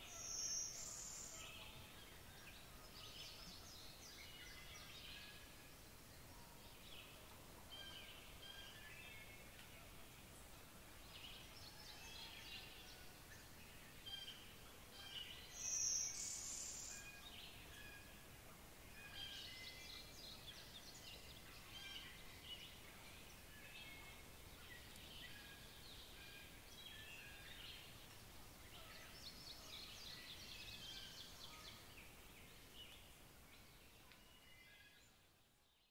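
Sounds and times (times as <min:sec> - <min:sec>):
faint songbirds singing: 0:00.0 - 0:35.9.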